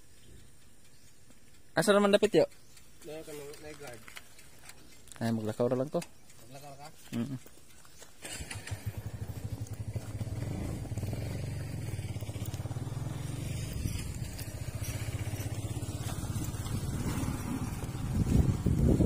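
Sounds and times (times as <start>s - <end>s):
vehicle engine puttering: 0.1s - 19.0s.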